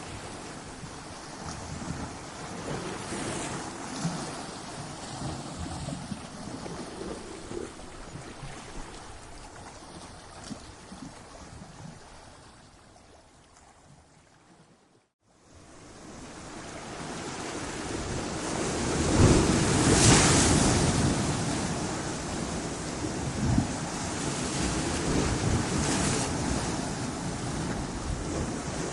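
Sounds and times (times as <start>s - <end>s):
ocean waves breaking against rocks: 0.0s - 12.6s, 15.6s - 28.9s.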